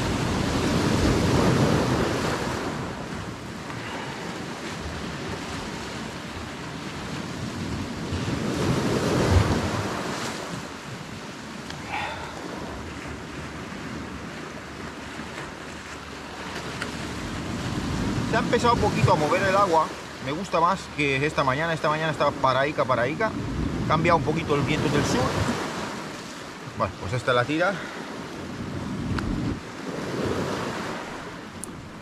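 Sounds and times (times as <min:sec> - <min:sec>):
wind buffeting microphone: 0:00.0 - 0:21.7, 0:22.3 - 0:26.8, 0:27.8 - 0:32.0
small waves washing onto shore: 0:00.0 - 0:32.0.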